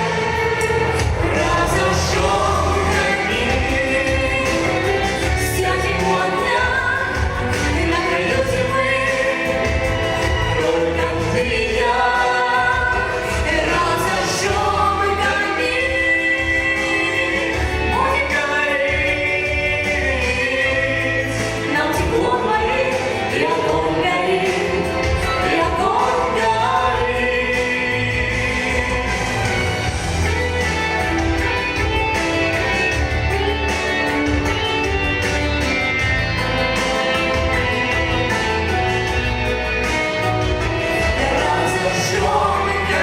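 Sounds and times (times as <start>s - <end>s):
instrumental backing with bass beat: 0.0s - 43.0s.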